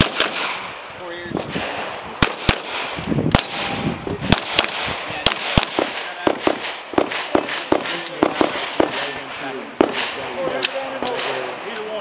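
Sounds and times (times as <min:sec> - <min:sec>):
pistol shots: 0:00.0 - 0:00.7, 0:01.6 - 0:11.6.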